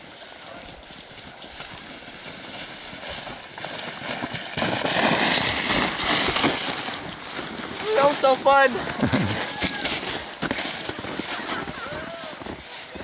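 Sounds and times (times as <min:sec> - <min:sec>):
crunching and sliding on snow: 0:00.0 - 0:13.0.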